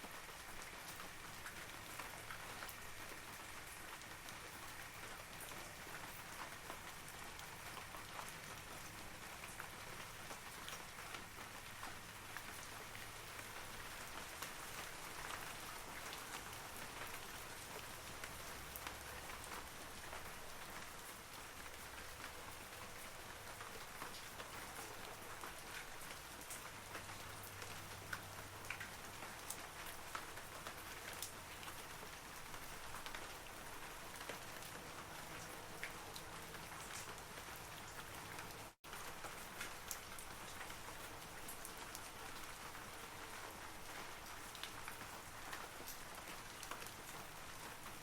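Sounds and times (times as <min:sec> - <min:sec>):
rain falling on trees: 0:00.0 - 0:48.0.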